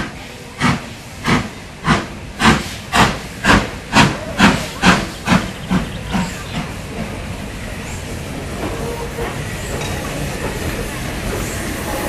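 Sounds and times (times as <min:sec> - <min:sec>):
steam hissing: 0:00.0 - 0:12.0
steam locomotive chuffing: 0:00.0 - 0:12.0.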